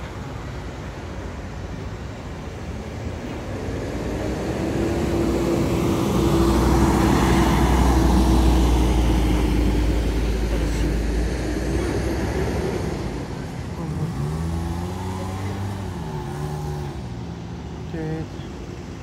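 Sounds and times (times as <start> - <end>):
road traffic: 0.0 - 19.0
vehicle engine rumbling: 0.0 - 19.0.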